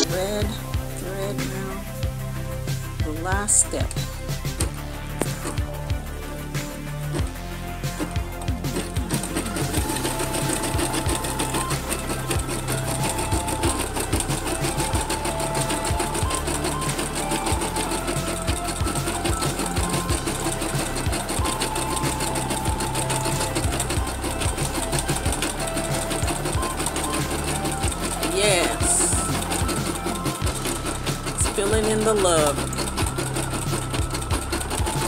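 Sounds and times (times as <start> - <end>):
embroidery machine stitching: 0.0 - 35.0.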